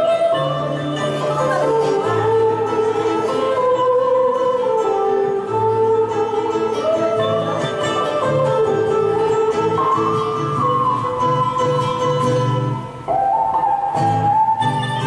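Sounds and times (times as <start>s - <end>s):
slow instrumental music: 0.0s - 15.0s.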